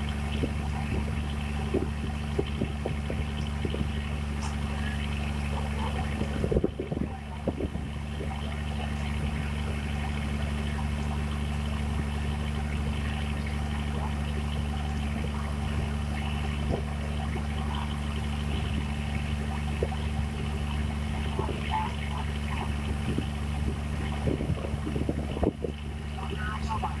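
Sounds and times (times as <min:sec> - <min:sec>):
boat engine running: 0:00.0 - 0:27.0
water noise from hull: 0:00.0 - 0:27.0.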